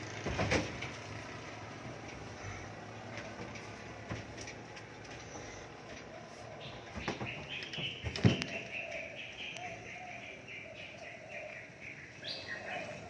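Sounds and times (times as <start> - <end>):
small birds chirping: 2.2 - 13.0.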